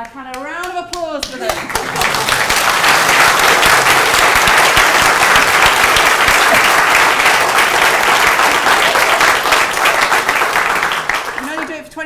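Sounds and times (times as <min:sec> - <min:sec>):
audience applauding: 0:01.4 - 0:11.8.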